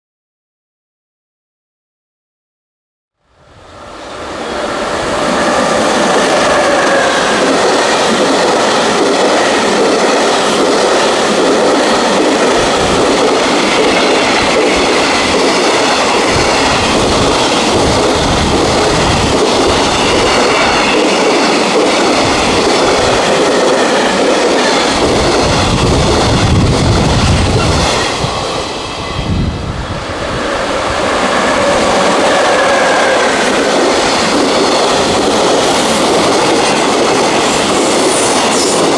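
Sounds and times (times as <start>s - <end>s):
freight train passing: 3.2s - 38.9s.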